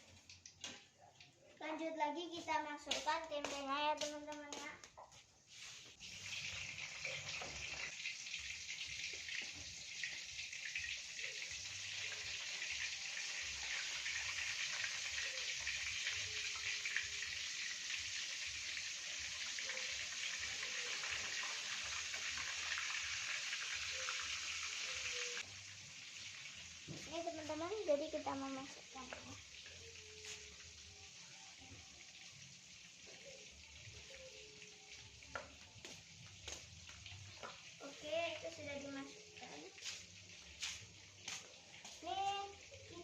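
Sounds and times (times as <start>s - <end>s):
food sizzling in hot oil: 5.4s - 43.0s.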